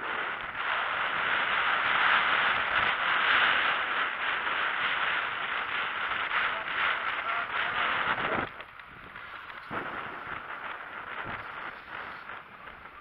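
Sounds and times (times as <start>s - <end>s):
bicycle tyres on pavement: 0.0s - 13.0s
bike rattling: 0.0s - 13.0s.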